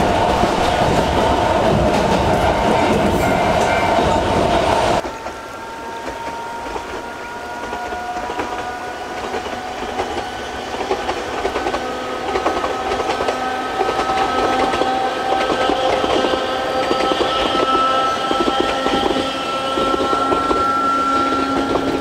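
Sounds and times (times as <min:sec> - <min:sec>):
electric train motor whine: 0:00.0 - 0:22.0
wheels clattering on rails: 0:00.0 - 0:22.0.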